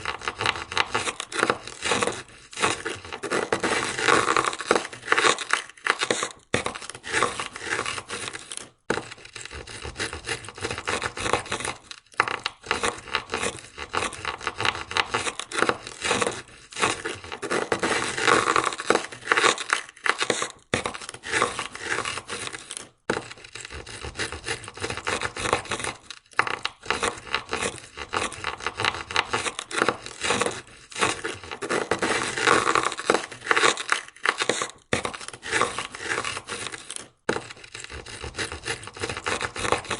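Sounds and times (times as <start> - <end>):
ice scraper scraping car window: 0.0 - 39.9.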